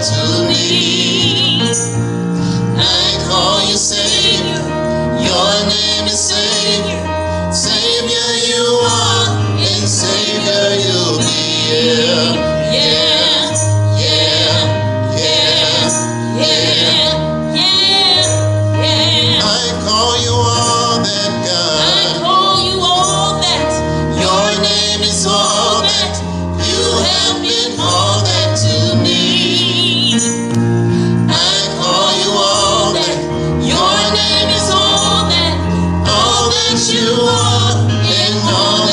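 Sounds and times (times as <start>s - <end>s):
choir singing gospel: 0.0s - 38.9s
instrumental accompaniment: 0.0s - 38.9s.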